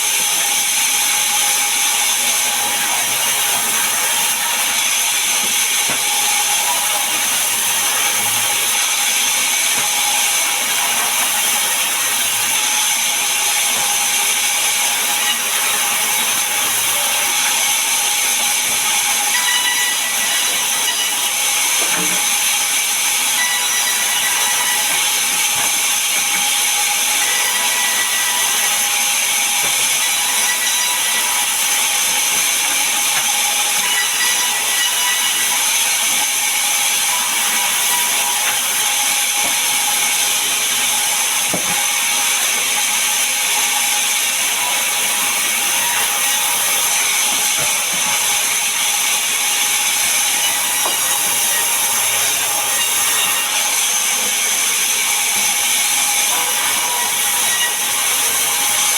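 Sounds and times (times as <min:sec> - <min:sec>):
sawmill saw cutting log: 0:00.0 - 0:58.9.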